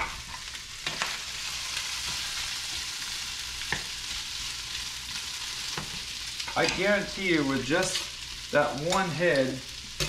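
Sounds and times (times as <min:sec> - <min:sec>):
fish and onions sizzling in a skillet: 0:00.0 - 0:10.0.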